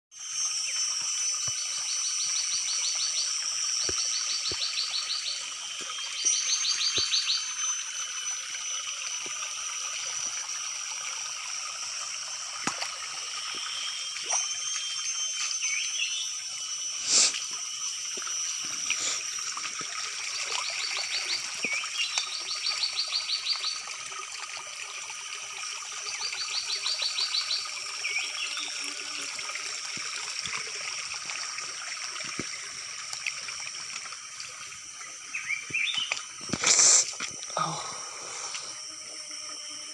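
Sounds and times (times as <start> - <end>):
high-pitched wildlife chorus: 0.2 - 24.0, 26.0 - 29.3, 32.2 - 39.9
stream trickling: 0.2 - 39.9.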